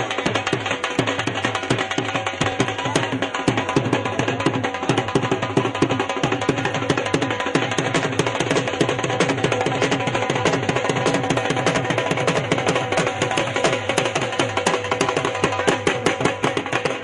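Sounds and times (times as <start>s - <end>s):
music with fast drumming: 0.0s - 17.0s.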